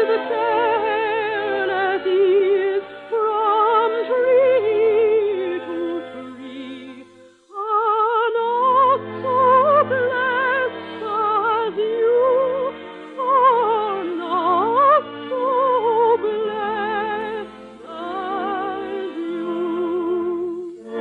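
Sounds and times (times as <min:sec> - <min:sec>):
operatic solo singing: 0:00.0 - 0:21.0.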